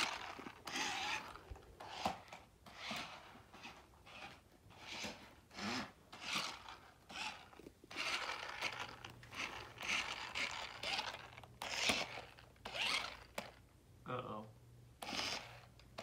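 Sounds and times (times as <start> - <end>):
toy car electric motors whirring: 0.0 - 13.6, 15.0 - 16.0
wheels scraping carpet: 0.0 - 13.6, 15.0 - 16.0.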